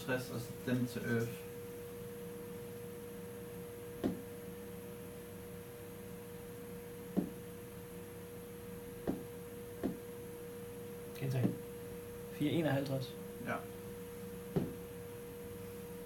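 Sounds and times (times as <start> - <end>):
steady tonal hum: 0.0 - 16.0.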